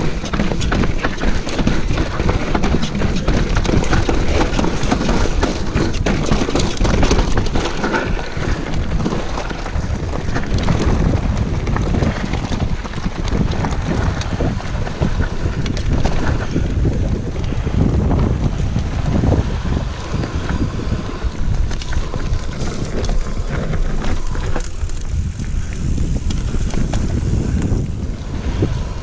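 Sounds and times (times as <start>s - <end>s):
bike knocks and rattles: 0.0s - 28.1s
tyres on gravel: 0.0s - 29.0s
wind buffeting microphone: 0.0s - 29.0s.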